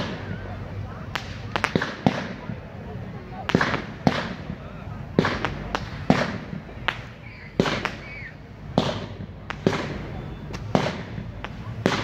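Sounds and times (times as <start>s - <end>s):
fireworks bangs: 0.0s - 12.0s
steady low rumble: 0.0s - 12.0s.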